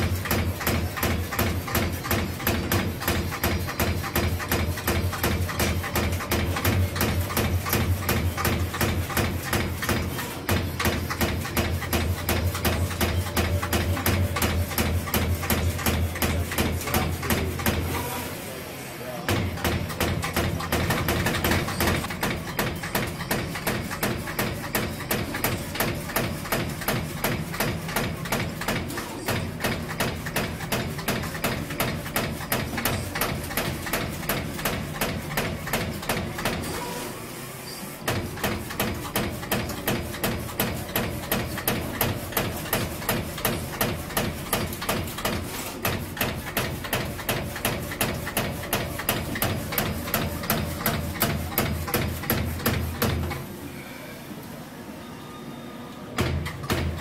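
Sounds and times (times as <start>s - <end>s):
punch press punching: 0.0s - 18.1s, 19.2s - 37.0s, 38.0s - 53.5s, 56.2s - 57.0s.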